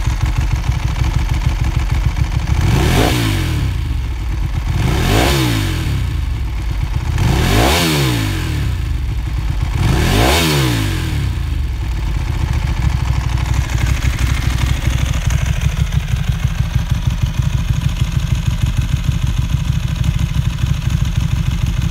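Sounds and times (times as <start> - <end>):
motorcycle engine revving and idling: 0.0 - 21.9.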